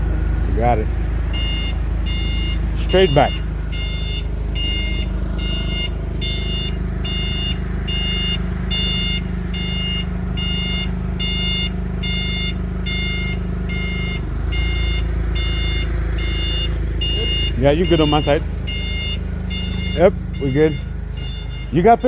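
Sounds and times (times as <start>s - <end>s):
engine running: 0.0s - 22.0s
vehicle backup alarm beeping: 0.0s - 22.0s.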